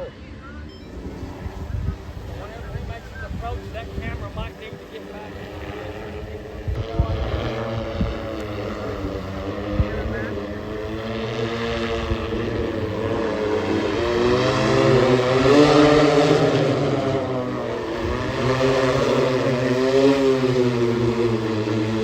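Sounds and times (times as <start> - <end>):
drone propellers humming: 0.0 - 22.0.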